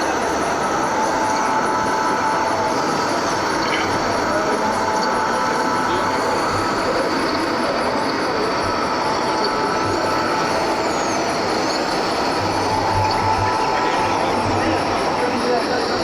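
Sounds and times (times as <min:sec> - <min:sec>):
electric drives whirring: 0:00.0 - 0:16.0.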